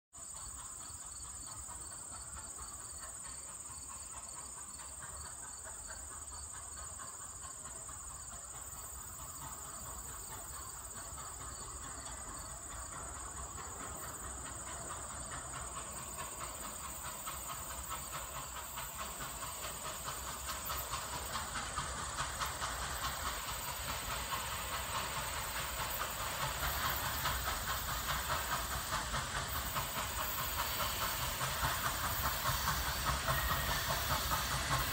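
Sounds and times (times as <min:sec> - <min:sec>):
steam hissing: 0:00.2 - 0:34.9
steam locomotive exhaust beats: 0:00.2 - 0:34.9.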